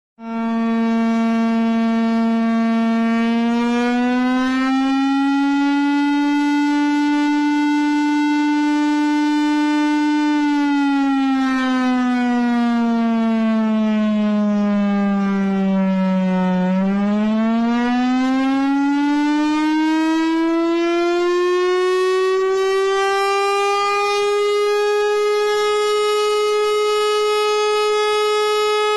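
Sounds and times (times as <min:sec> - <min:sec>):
siren-like tone: 0:00.2 - 0:28.9.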